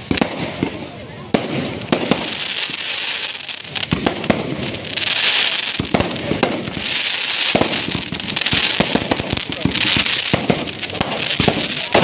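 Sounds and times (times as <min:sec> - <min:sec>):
fireworks bangs and crackles: 0:00.0 - 0:12.0
fireworks hiss: 0:00.0 - 0:12.0.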